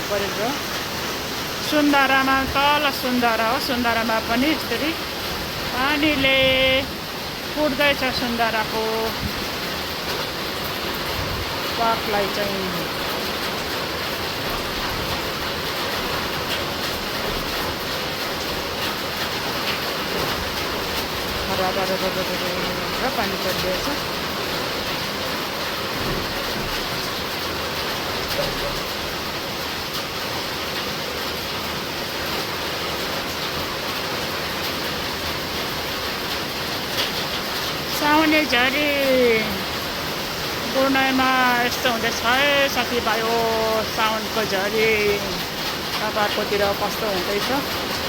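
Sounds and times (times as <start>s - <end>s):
heavy rain on leaves: 0.0s - 48.0s.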